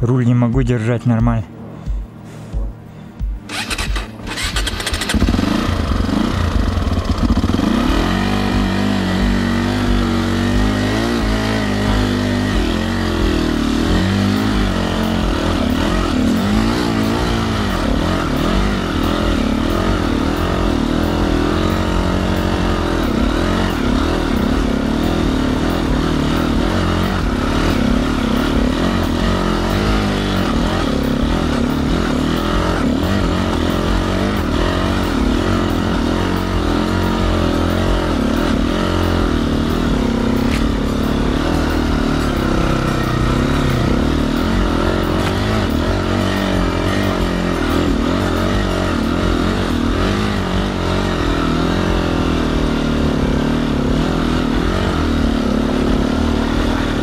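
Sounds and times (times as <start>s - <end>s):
motorcycle engine revving: 1.8s - 57.0s.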